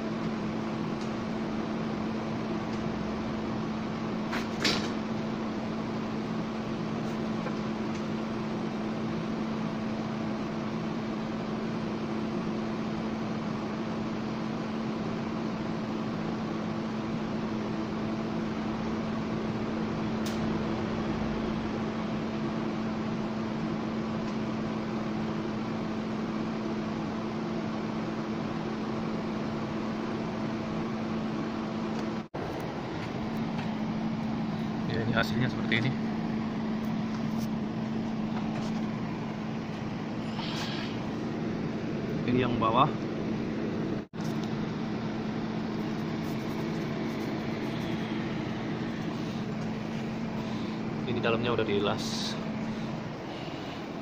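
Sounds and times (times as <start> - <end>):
welding arc hiss and hum: 0.0 - 54.0.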